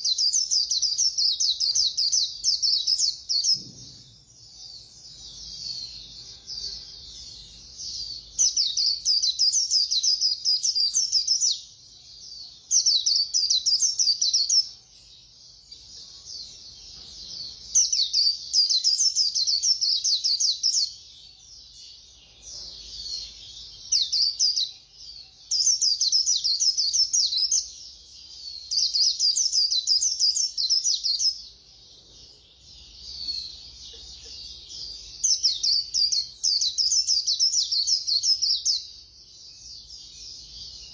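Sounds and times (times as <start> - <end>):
bird twittering song: 0.0 - 40.9
soft bird twittering: 0.0 - 40.9.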